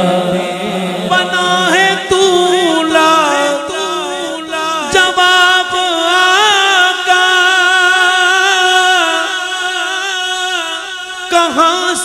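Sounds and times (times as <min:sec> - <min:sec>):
man singing long held note: 0:00.0 - 0:12.0.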